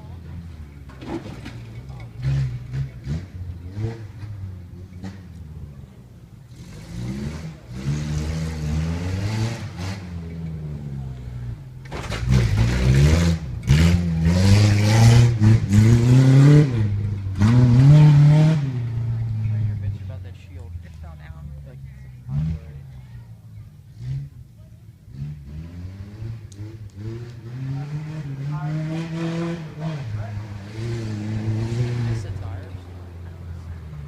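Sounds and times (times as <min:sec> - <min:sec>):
truck engine revving hard: 0:00.0 - 0:34.0.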